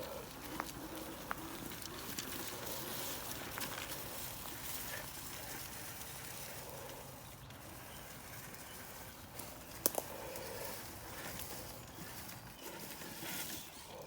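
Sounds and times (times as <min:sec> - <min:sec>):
tyres crunching on dirt and rocks: 0:00.0 - 0:14.0.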